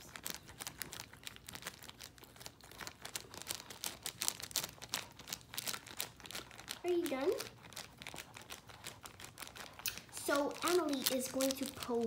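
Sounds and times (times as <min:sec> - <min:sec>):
dog licking plastic bag: 0:00.0 - 0:12.0
plastic crinkling: 0:00.0 - 0:12.0.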